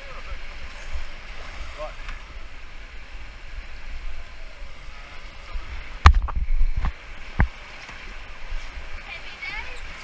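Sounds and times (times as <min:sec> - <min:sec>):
river water rushing: 0:00.0 - 0:10.0
wind rumble on microphone: 0:00.0 - 0:10.0.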